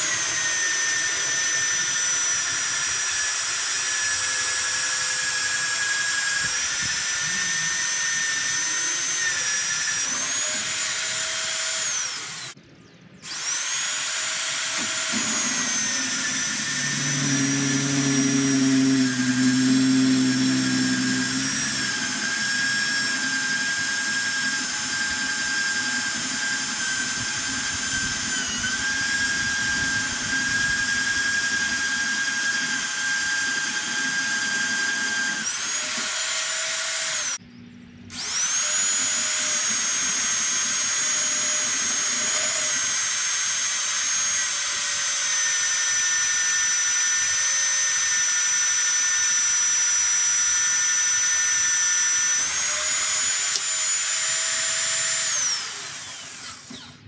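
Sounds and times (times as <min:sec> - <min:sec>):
drill press motor whining: 0:00.0 - 0:12.6, 0:13.2 - 0:37.4, 0:38.1 - 0:57.0.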